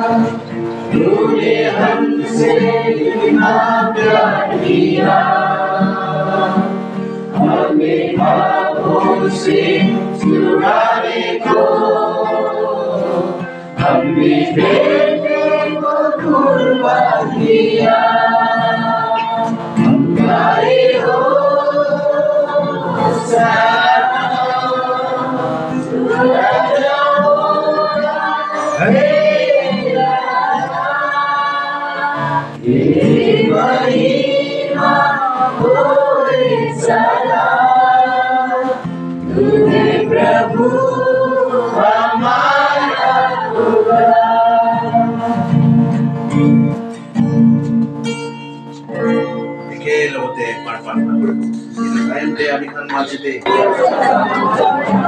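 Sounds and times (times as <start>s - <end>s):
congregation singing worship song: 0.0s - 55.0s.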